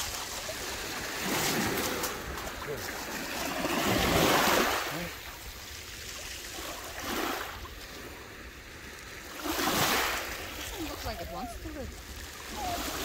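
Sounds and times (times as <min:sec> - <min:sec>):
small waves washing over shingle: 0:00.0 - 0:13.0.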